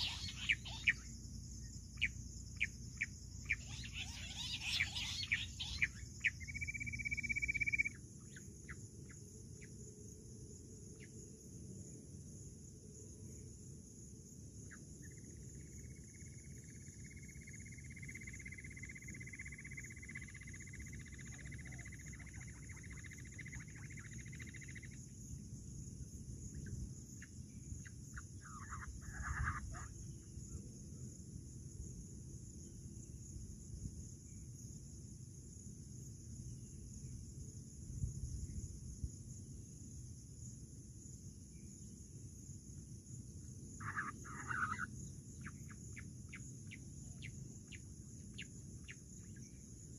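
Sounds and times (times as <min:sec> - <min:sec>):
rising insect trill: 0:00.0 - 0:12.0, 0:12.9 - 0:49.9
insects chirring: 0:00.0 - 0:49.9
short insect call: 0:00.0 - 0:49.9.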